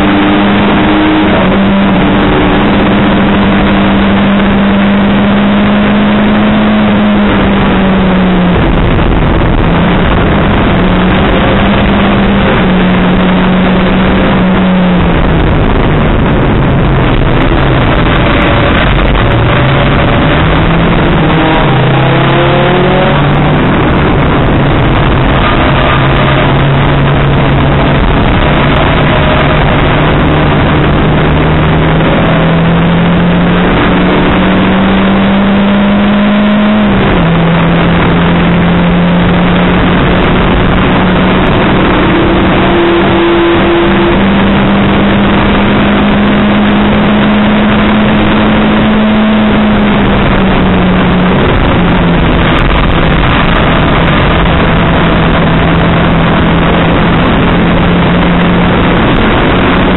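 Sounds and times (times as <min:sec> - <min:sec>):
race car engine under load: 0:00.0 - 0:59.9.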